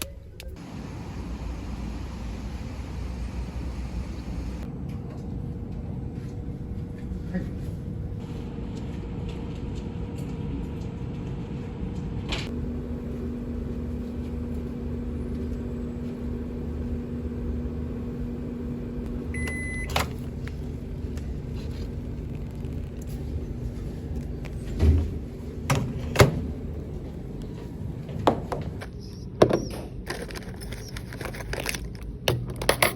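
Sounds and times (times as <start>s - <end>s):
microwave oven humming: 0.2s - 31.0s.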